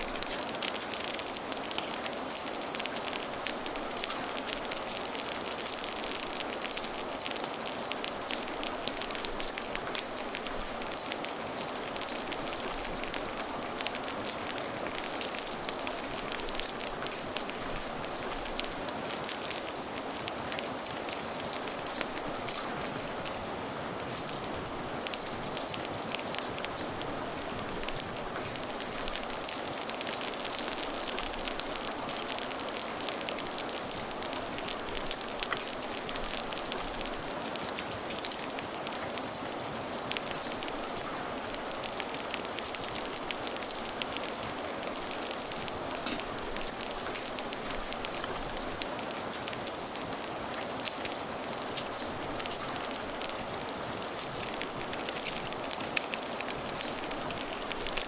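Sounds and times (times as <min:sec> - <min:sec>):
fire crackling: 0:00.0 - 0:58.0
steady rain: 0:00.0 - 0:58.0.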